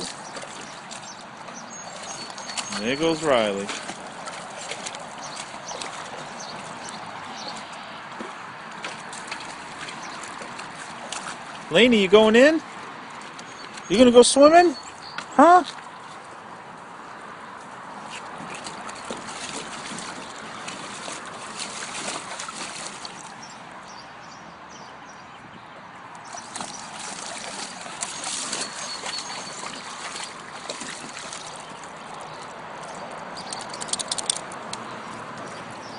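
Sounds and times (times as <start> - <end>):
pool water splashing: 0.0 - 25.3, 26.0 - 35.9.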